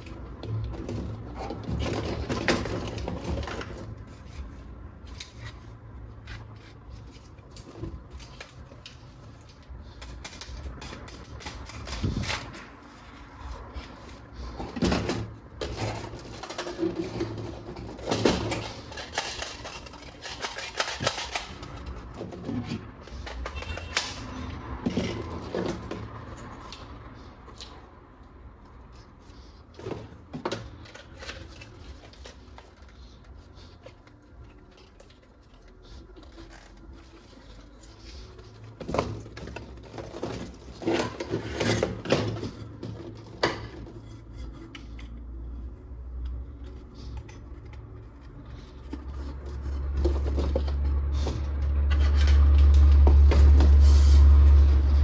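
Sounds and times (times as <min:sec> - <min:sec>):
plastic parts clicking and rubbing: 0:00.0 - 0:27.9, 0:29.0 - 0:53.8.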